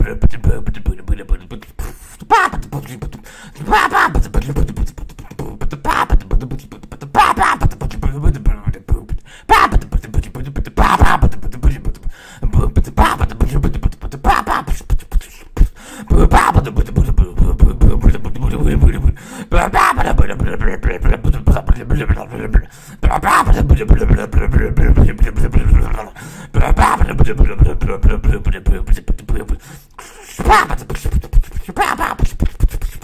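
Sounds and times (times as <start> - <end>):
beatboxing: 0.0 - 33.0.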